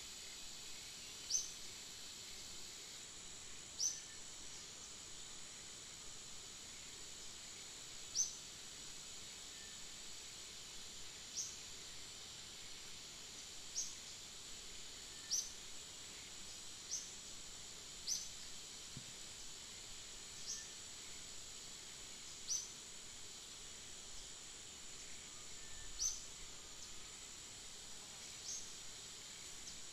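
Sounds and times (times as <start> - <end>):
high insect drone: 0.0 - 29.9.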